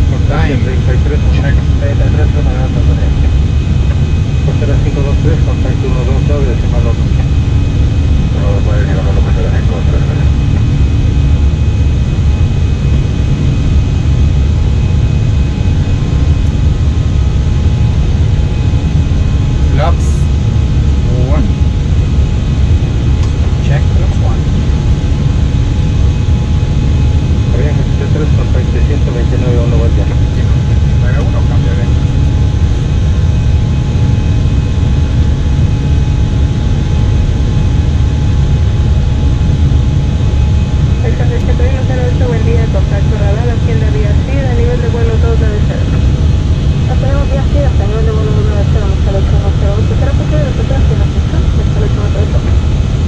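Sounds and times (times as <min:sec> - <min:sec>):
aircraft engine rumble: 0:00.0 - 0:53.0
faint steady tones: 0:00.0 - 0:53.0.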